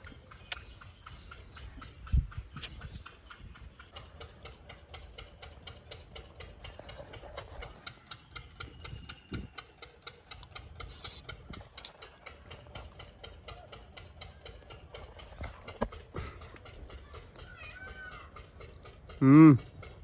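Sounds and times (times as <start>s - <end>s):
rapid ticking: 0.0s - 20.0s.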